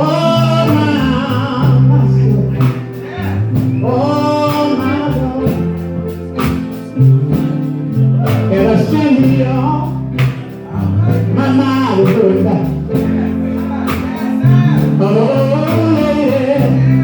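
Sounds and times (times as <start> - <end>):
gospel band playing: 0.0 - 17.0
person singing: 0.0 - 17.0.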